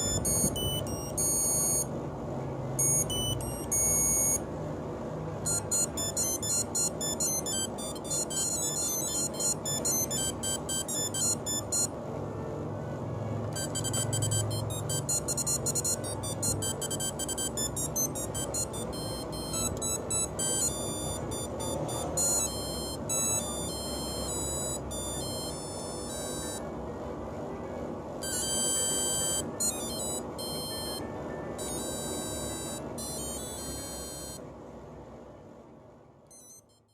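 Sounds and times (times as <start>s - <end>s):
mobile phone ringtone beeping: 0.0s - 1.9s, 2.8s - 4.4s, 5.4s - 12.0s, 13.5s - 26.7s, 28.2s - 34.4s, 36.3s - 36.9s.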